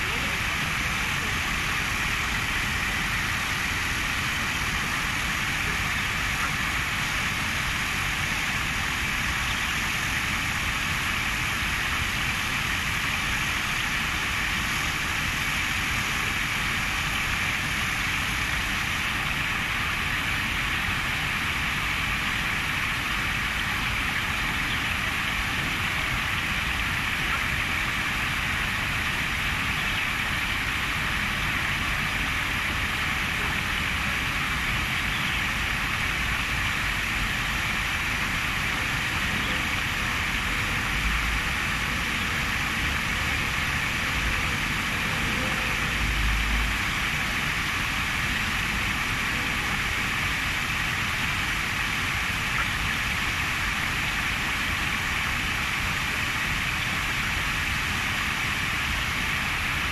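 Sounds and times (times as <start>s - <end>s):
stream flowing and bubbling: 0.0s - 59.9s.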